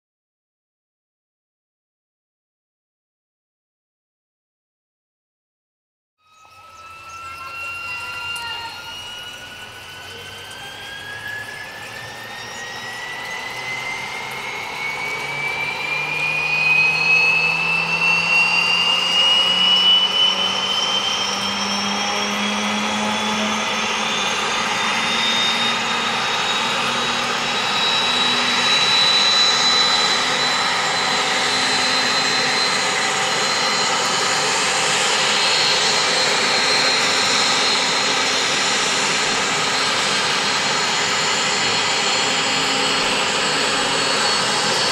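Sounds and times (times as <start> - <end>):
helicopter turbine whine rising: 6.2 - 44.9
rotor hum: 6.4 - 44.9.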